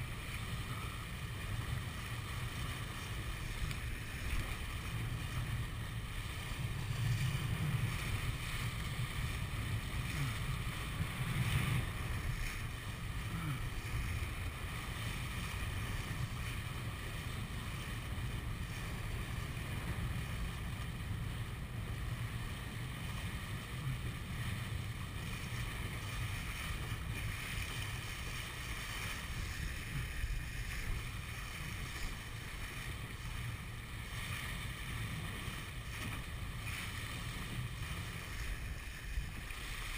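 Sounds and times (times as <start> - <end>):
water splashing along hull: 0.0 - 39.9
wind buffeting microphone: 0.0 - 39.9.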